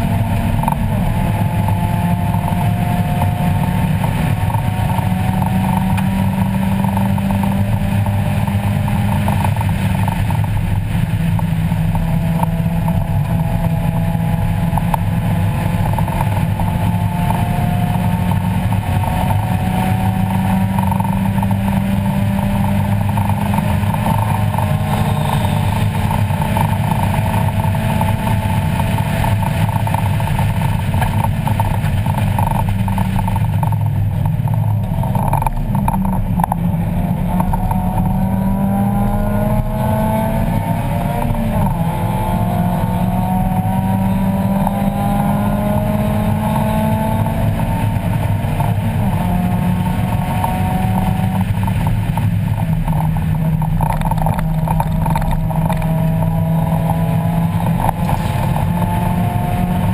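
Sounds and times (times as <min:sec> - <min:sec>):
car engine revving high: 0:00.0 - 0:59.9.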